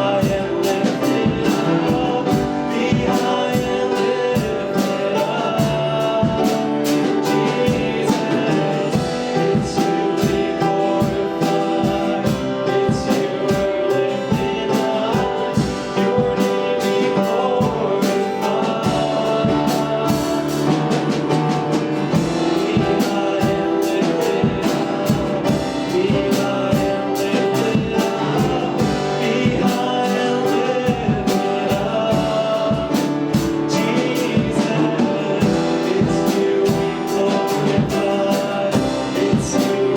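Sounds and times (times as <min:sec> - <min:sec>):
gospel singing with band: 0:00.0 - 0:39.9.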